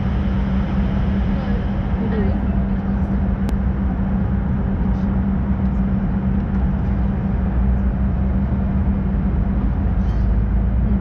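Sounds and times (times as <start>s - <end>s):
jet cabin hum: 0.0s - 11.0s.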